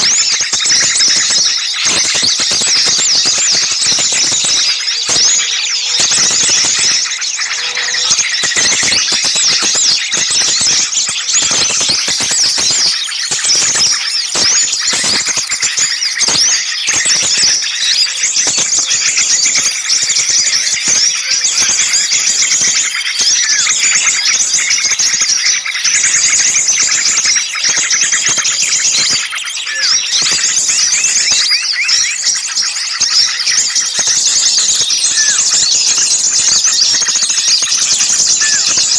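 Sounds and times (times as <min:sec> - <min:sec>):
songbirds alarm calls: 0:00.0 - 0:38.9.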